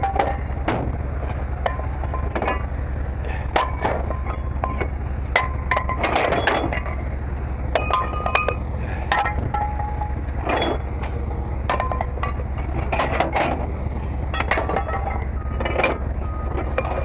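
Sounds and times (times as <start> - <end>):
scrap metal parts clanking: 0.0 - 17.0
steady low hum: 0.0 - 17.0.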